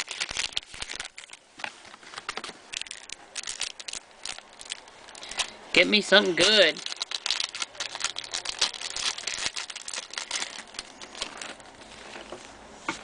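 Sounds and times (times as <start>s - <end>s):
plastic wrapper crinkling and tearing: 0.0s - 12.3s
cards rustling: 0.0s - 12.6s.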